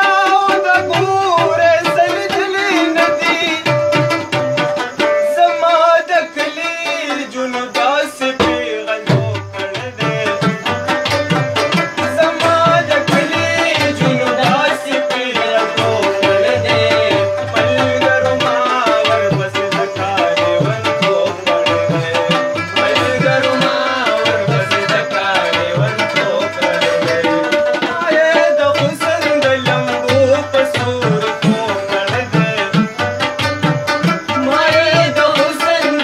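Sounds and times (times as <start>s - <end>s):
tabla drumming: 0.0s - 36.0s.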